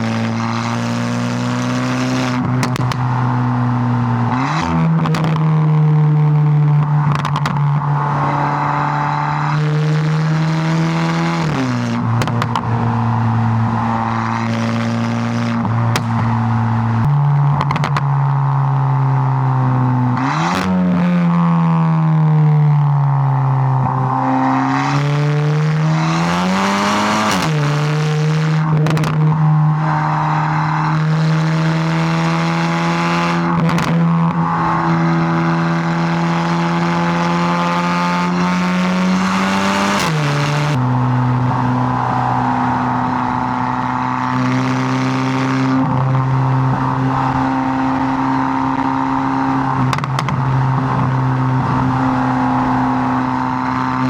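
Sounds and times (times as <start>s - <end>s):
car engine accelerating with gear shifts: 0.0s - 54.0s.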